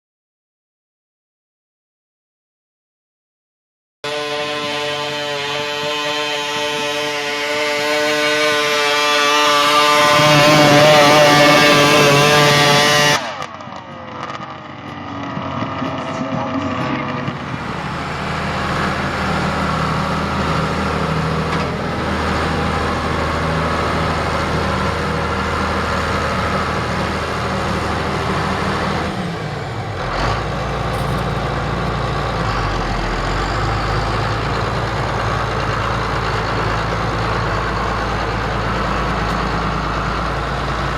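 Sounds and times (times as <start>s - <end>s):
tractor engine rumbling: 4.1s - 40.9s.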